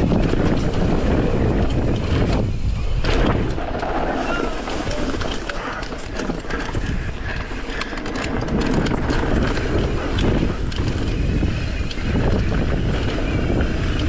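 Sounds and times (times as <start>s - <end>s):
bike clicking and rattling: 0.0s - 14.0s
bike tyres rumbling on dirt: 0.0s - 14.0s.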